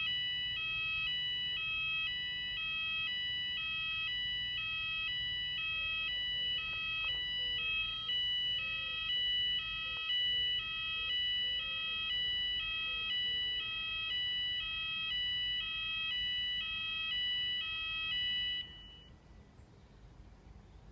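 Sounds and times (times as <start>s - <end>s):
two-tone fire alarm: 0.0s - 19.1s.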